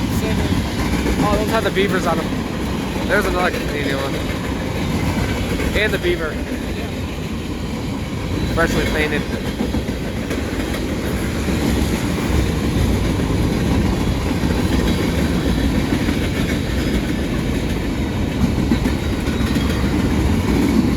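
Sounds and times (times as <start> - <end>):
steel wheels rumbling on rails: 0.0 - 20.9.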